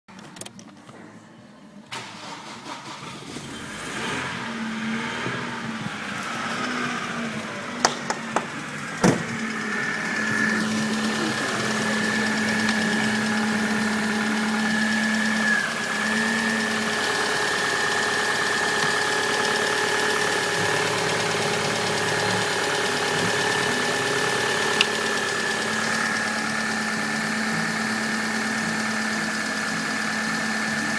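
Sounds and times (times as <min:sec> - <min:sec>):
car engine idling: 0:03.2 - 0:30.9.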